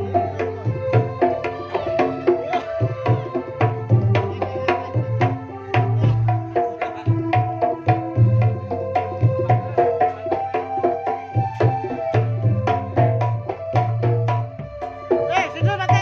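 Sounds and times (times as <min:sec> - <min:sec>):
hand drums playing rhythm: 0:00.0 - 0:16.0.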